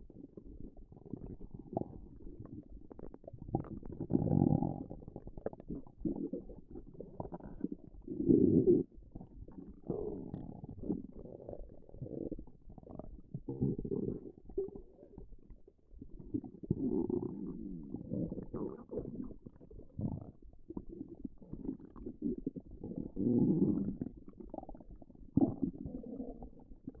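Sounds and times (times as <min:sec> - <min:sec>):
stomach growling: 0:00.0 - 0:27.0.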